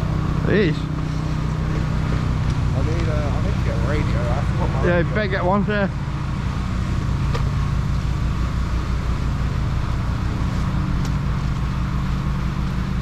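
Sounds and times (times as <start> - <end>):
engine running with low throb: 0.0 - 13.0.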